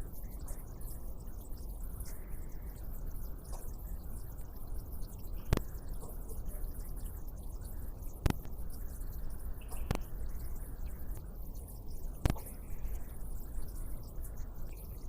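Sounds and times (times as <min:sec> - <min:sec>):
water drops dripping: 0:00.0 - 0:15.0.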